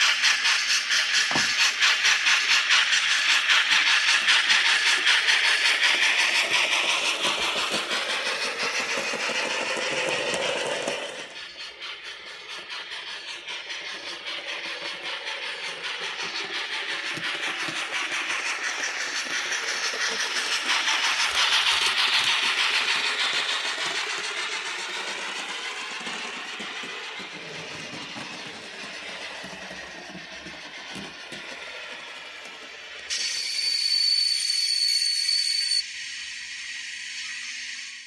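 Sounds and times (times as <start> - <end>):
model train wagon clattering on track: 0.0 - 33.4.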